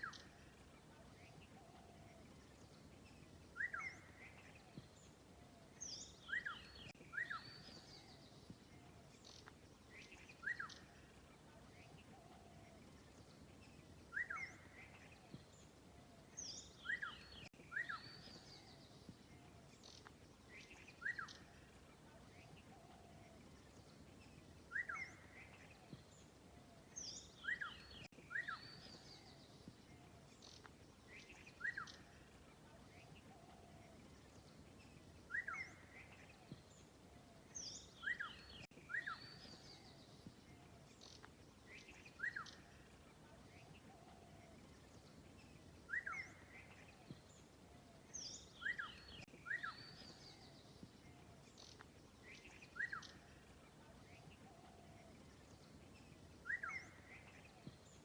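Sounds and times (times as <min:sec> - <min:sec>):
birds chirping: 0:00.0 - 0:58.0
faint steady background noise: 0:00.0 - 0:58.0.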